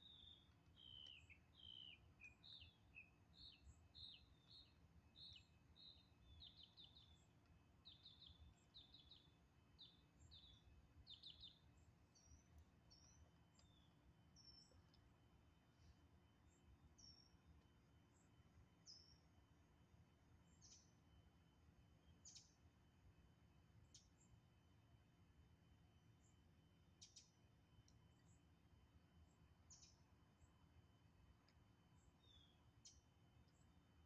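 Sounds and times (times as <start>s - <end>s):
faint bird chirping: 0.0s - 19.6s, 20.4s - 24.7s, 25.6s - 34.0s.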